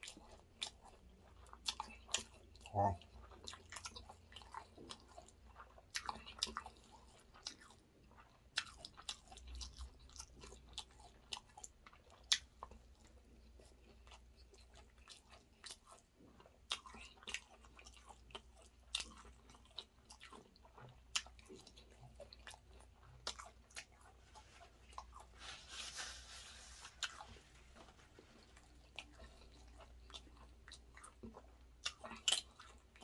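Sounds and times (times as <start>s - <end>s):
wet mouth chewing clicks: 0.0s - 25.4s, 27.0s - 33.0s.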